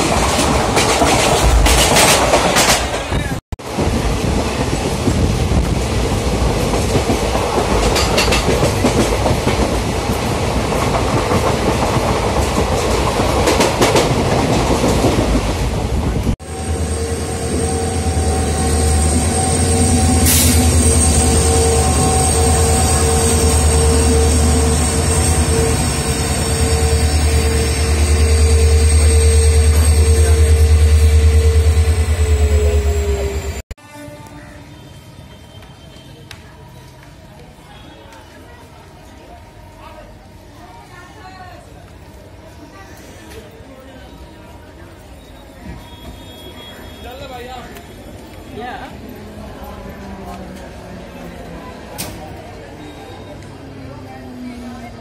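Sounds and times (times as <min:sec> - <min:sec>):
passing train rushing: 0:00.0 - 0:33.7, 0:39.6 - 0:55.0.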